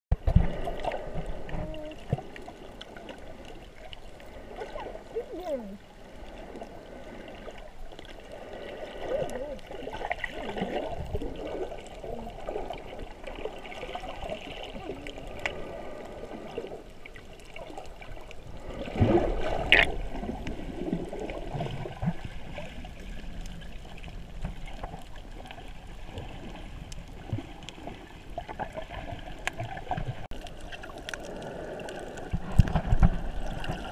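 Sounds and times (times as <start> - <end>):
underwater gurgling and bubbling: 0.1 - 33.9
water surge: 0.1 - 33.9.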